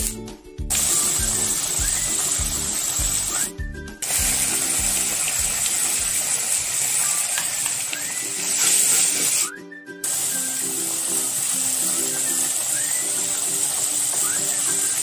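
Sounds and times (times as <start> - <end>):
background music with steady beat: 0.0 - 15.0
chili paste sizzling in oil: 0.7 - 15.0.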